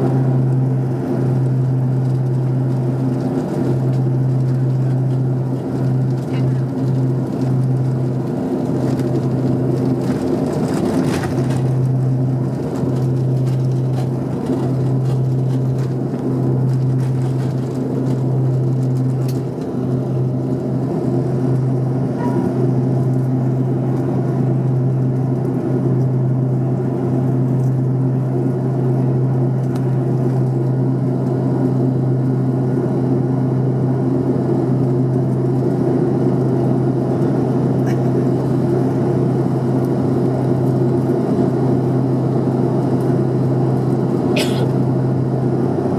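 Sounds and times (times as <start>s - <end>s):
turboprop engines droning in cabin: 0.0s - 45.9s.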